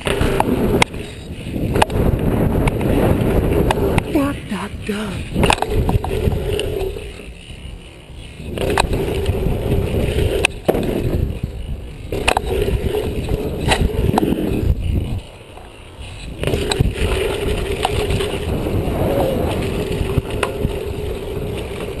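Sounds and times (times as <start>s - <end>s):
bike tyres rolling on dirt: 0.0s - 22.0s
wind on camera: 0.0s - 22.0s.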